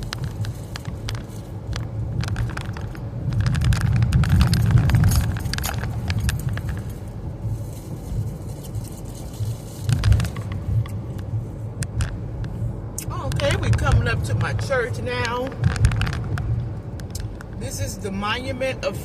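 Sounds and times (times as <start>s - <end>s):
road rumble inside car: 0.0s - 19.0s.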